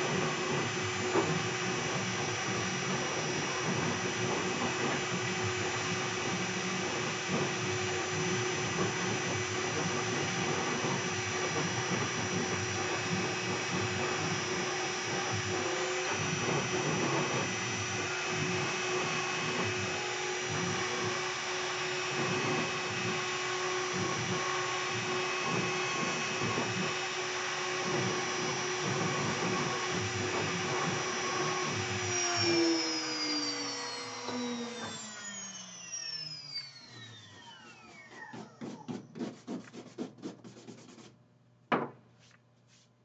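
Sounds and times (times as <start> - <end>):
bit carving wood: 0.0 - 35.5
router spindle whine: 0.0 - 38.9.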